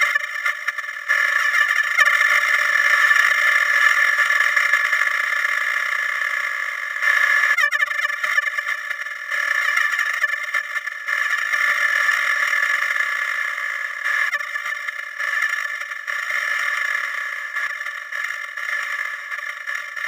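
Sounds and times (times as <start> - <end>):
high-pitched buzz: 0.0 - 20.0.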